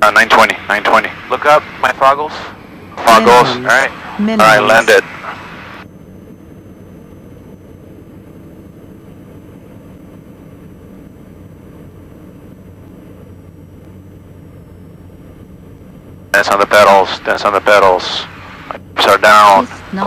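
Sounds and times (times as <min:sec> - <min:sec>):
aircraft engines droning: 0:00.0 - 0:20.0
faint high whine: 0:00.0 - 0:20.0.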